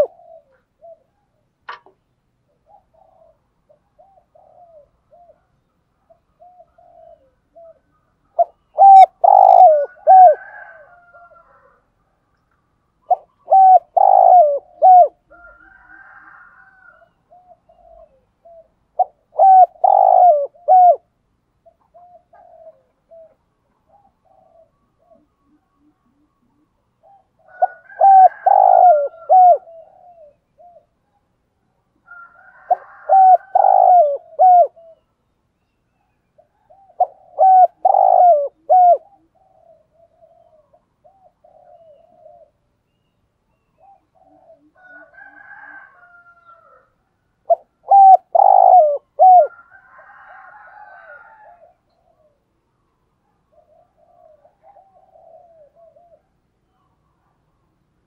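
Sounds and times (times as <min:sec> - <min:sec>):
dove cooing: 0:00.0 - 0:12.0, 0:13.0 - 0:31.2, 0:31.8 - 0:35.2, 0:36.0 - 0:57.8
soft quiet dove calling: 0:00.0 - 0:58.0.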